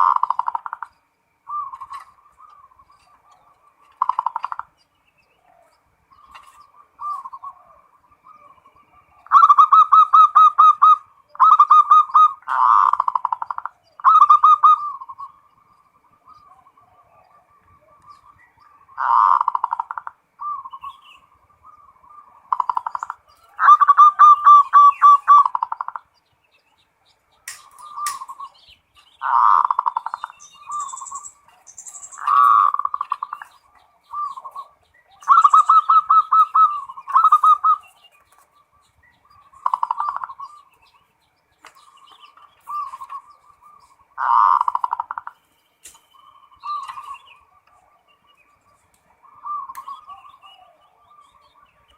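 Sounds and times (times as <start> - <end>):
dove cooing with rolling trill: 0.0 - 45.5, 46.2 - 51.9.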